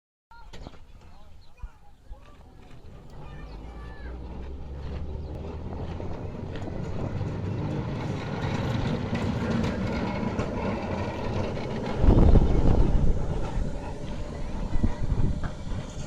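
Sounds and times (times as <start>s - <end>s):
tram rumbling on rails: 2.2s - 16.0s.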